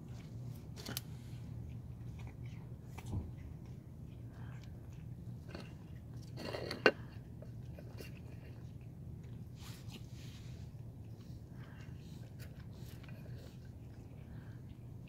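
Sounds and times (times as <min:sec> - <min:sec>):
cats chewing and crunching food: 0:00.0 - 0:15.0.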